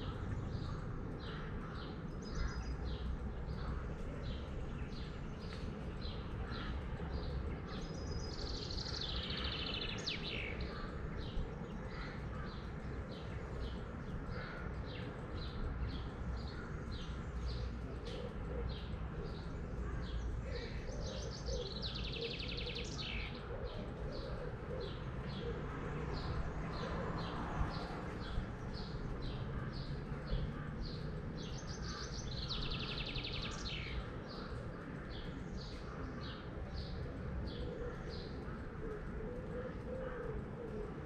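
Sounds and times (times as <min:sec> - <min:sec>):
bird trilled song: 0:00.0 - 0:25.6, 0:28.6 - 0:38.4
low background noise: 0:00.0 - 0:41.0
small birds chirping: 0:00.0 - 0:41.0.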